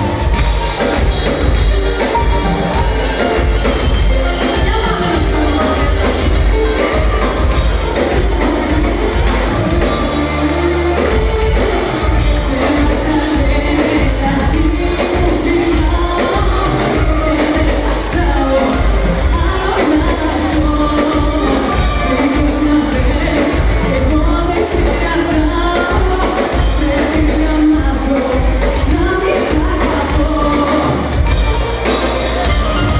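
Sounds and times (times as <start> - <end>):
drums steady beat: 0.0 - 32.9
live band playing: 0.0 - 32.9
person singing: 0.0 - 32.9.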